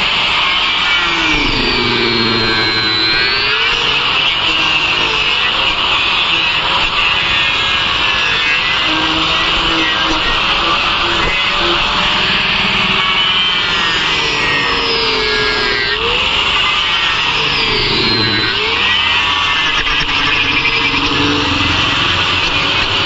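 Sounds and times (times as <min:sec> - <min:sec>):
power tool motor whining: 0:00.0 - 0:23.0.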